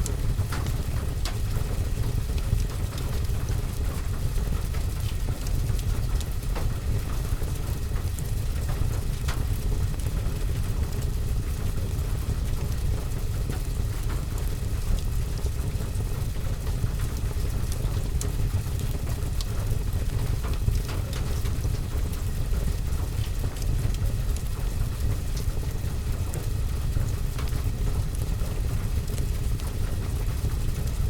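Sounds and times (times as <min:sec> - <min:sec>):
fireplace fire: 0:00.0 - 0:31.0
rain on roof and window: 0:00.0 - 0:31.0.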